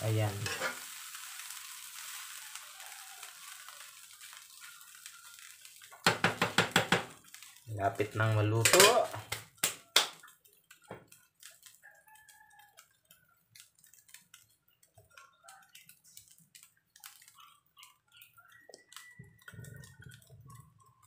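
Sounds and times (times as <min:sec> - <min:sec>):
rice crackling in a frying pan: 0:00.0 - 0:21.0.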